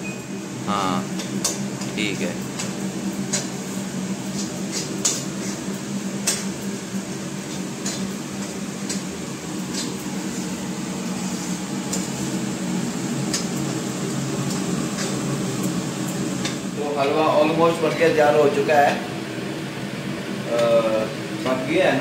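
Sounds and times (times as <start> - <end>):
kitchen hood blower humming: 0.0 - 22.0.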